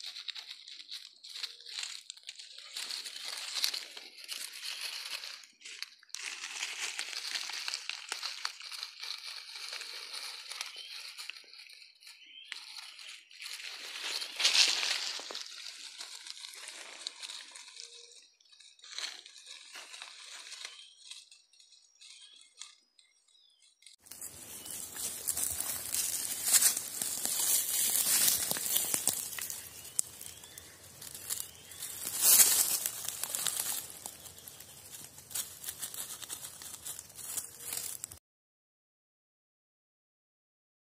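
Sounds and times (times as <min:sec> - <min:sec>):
dry leaves crackling and rustling: 0:00.0 - 0:22.6, 0:24.0 - 0:38.2.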